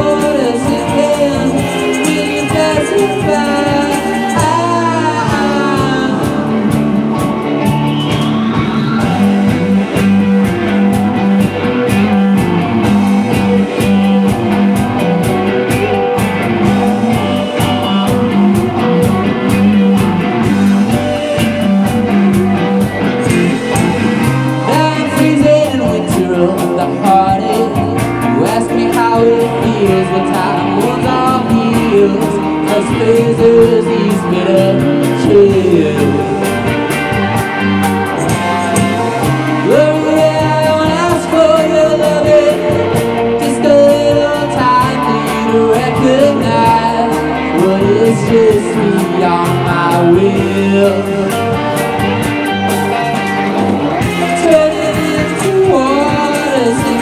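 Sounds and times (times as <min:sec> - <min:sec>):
drum kit: 0:00.0 - 0:57.0
electric guitars: 0:00.0 - 0:57.0
person singing: 0:00.0 - 0:57.0.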